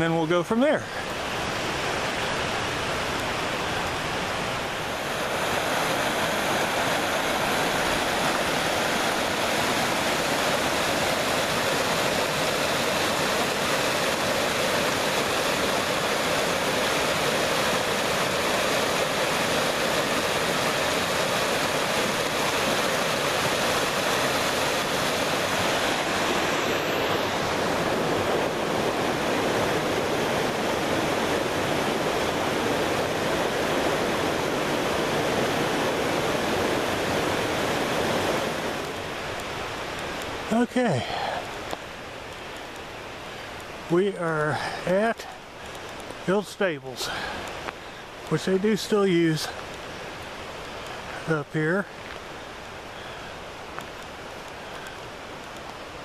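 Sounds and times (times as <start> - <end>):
creek rushing over boulders: 0.0 - 56.0.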